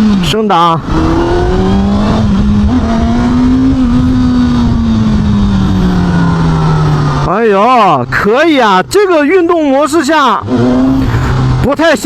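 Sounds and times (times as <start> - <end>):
motorcycle engine revving: 0.0 - 9.0, 9.8 - 12.0.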